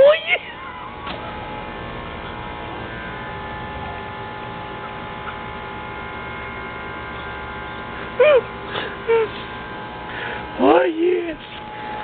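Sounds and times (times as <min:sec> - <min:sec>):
steady droning hum: 0:00.0 - 0:12.0.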